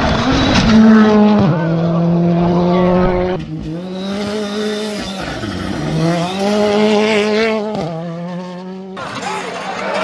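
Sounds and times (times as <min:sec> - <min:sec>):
rally car engine revving: 0:00.0 - 0:09.7
gravel and tyre noise: 0:00.0 - 0:10.0.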